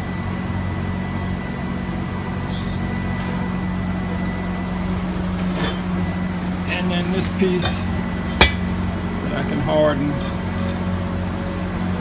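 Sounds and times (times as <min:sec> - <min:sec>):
faint constant whine: 0:00.0 - 0:12.0
low machine hum: 0:00.0 - 0:12.0.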